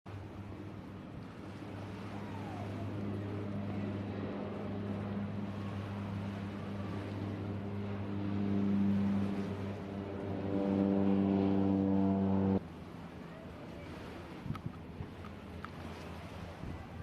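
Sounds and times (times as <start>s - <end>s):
boat engine humming: 0.1s - 17.0s
water noise: 0.1s - 17.0s
wind: 0.1s - 17.0s.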